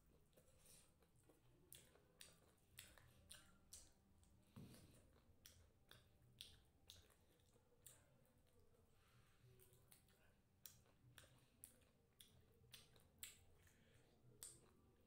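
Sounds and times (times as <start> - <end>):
wet chewing clicks and smacks: 0.0 - 15.0.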